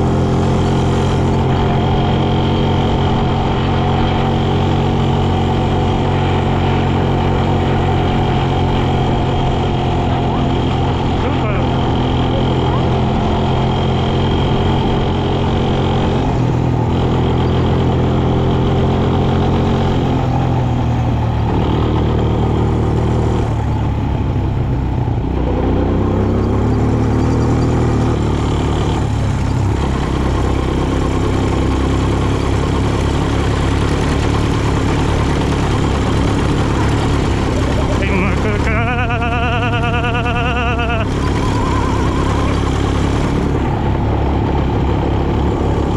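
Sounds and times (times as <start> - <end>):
quad bike engine running: 0.0 - 45.9.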